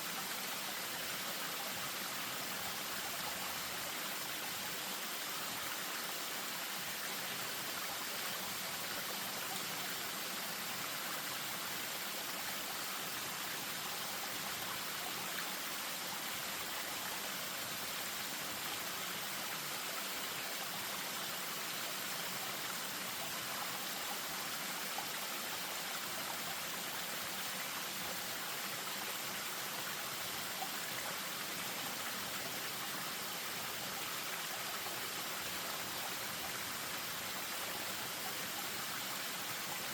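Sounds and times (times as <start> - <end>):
stream over small waterfall: 0.0 - 39.9.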